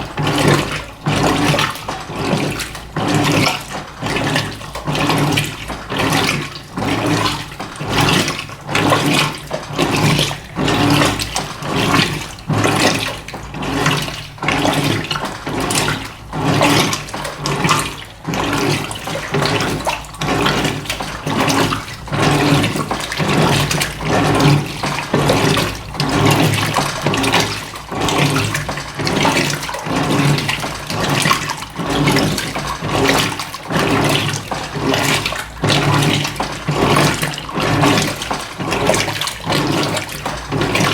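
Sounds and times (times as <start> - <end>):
washing machine motor humming: 0.0 - 40.9
water sloshing: 0.0 - 40.9.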